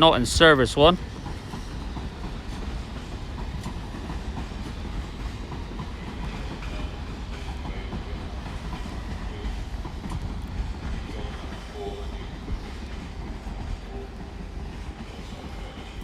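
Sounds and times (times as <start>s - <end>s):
underground train rumbling: 0.0s - 16.0s
wheels clicking on rails: 0.0s - 16.0s.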